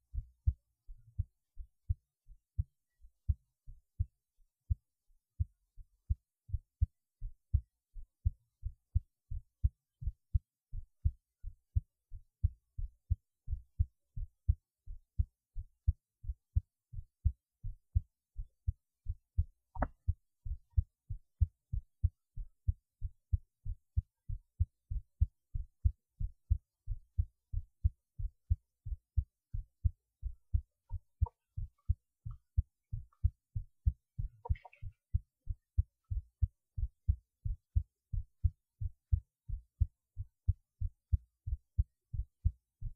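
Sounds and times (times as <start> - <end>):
heartbeat thumps: 0.1 - 2.0, 2.6 - 4.1, 6.1 - 42.9.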